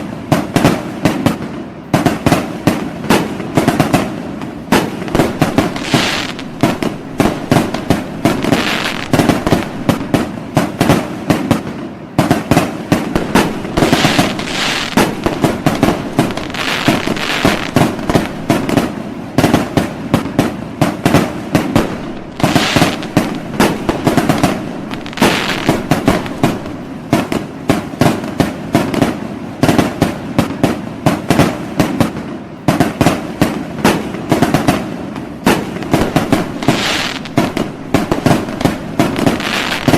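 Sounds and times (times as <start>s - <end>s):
fireworks crackling: 0.0s - 39.9s
firecrackers banging: 0.2s - 39.9s.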